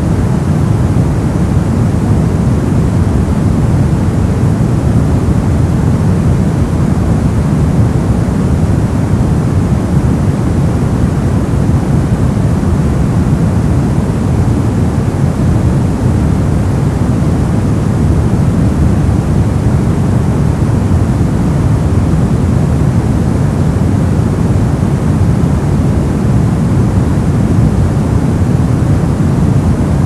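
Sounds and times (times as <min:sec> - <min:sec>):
brown noise hiss: 0:00.0 - 0:30.0.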